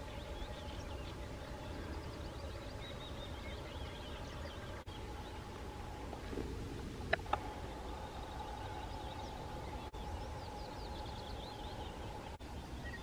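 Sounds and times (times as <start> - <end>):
low rumble: 0.0 - 12.9
faint constant hum: 0.0 - 13.0
small birds chirping: 0.0 - 13.0.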